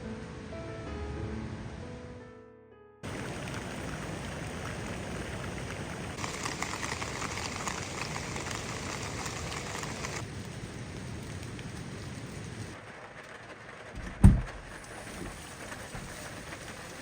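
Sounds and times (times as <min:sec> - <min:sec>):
steady rain falling: 0:03.0 - 0:17.0.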